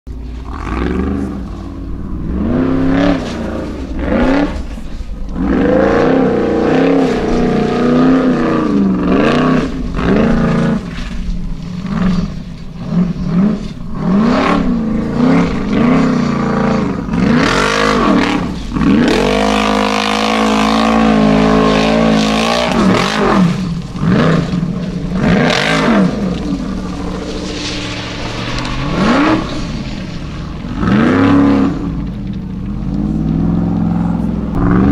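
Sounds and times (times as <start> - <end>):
buggy engine revving hard: 0.3 - 34.9.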